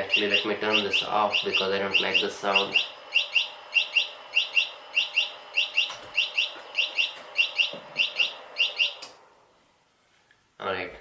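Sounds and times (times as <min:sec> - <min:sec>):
electronic buzzer chirping: 0:00.0 - 0:09.0
steady hum: 0:00.0 - 0:11.0.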